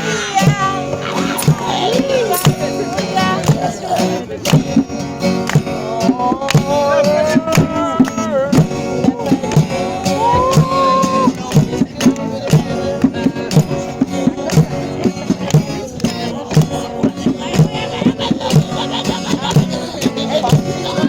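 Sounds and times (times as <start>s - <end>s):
music with steady beat: 0.0s - 21.0s.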